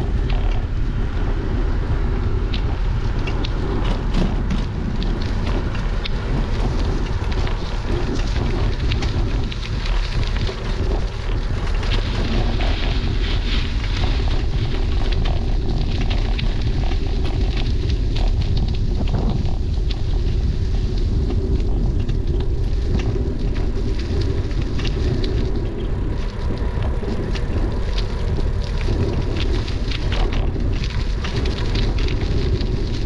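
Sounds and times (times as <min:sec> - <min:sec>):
tyres rumbling on road: 0:00.0 - 0:33.0
wind buffeting microphone: 0:00.0 - 0:33.0
small clicks and rattles: 0:02.5 - 0:33.0.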